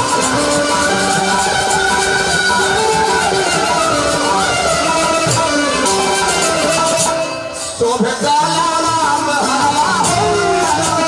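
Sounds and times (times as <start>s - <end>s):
sustained folk melody: 0.0s - 11.0s.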